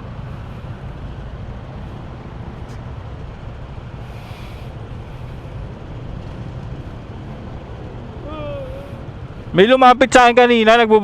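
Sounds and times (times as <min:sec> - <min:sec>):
motor scooter engine drone: 0:00.0 - 0:10.0
road and wind noise: 0:00.0 - 0:11.0.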